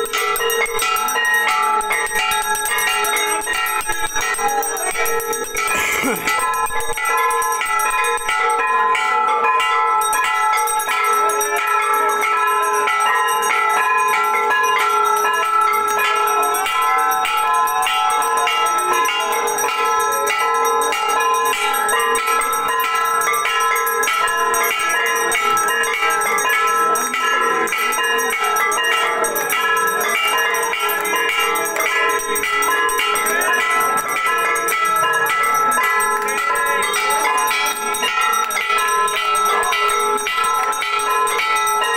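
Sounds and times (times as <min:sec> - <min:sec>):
temple bells clanging: 0:00.0 - 0:41.9.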